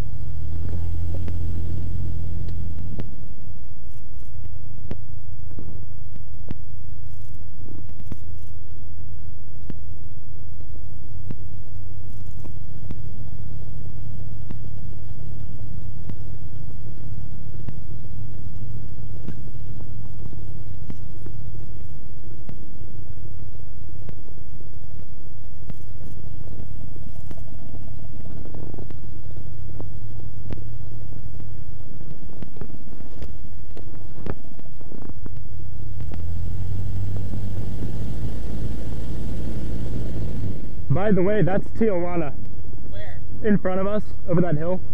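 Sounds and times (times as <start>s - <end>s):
light aircraft engine drone: 0.0s - 44.9s.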